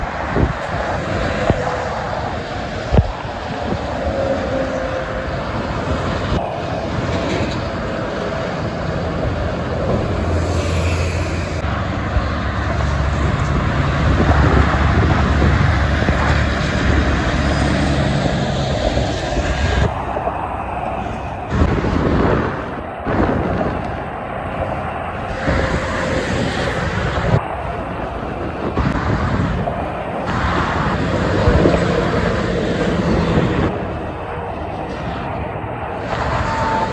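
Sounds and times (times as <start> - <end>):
expressway traffic: 0.0 - 36.9
heavy truck engine rumble: 0.0 - 36.9.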